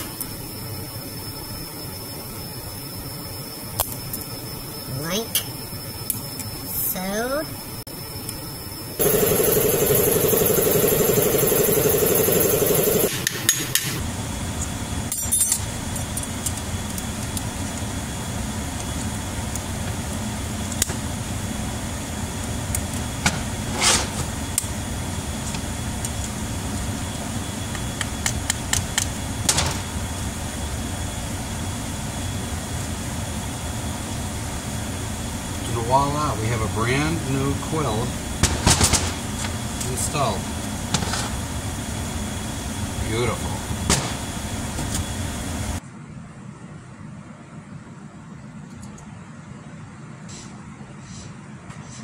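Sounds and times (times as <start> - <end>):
loud steady machine noise: 0.0 - 45.8
low shop hum: 0.0 - 52.0.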